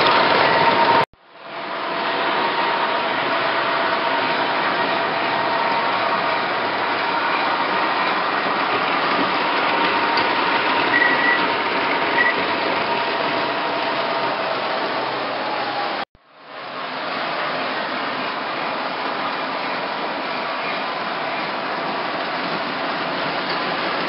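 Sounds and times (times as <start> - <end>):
model trains whirring: 0.0 - 16.0, 17.0 - 24.0.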